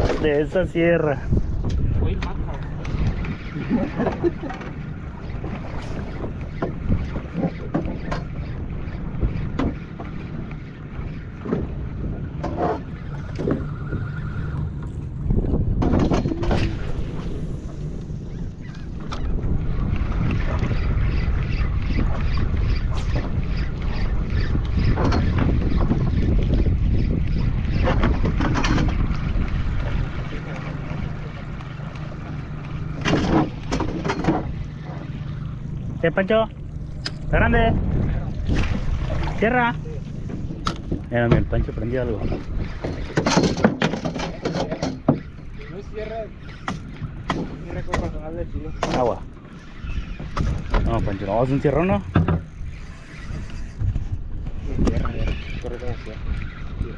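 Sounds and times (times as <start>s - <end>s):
wind buffeting microphone: 0.0s - 56.9s
water slapping against boat hull: 1.5s - 17.2s, 18.4s - 56.9s.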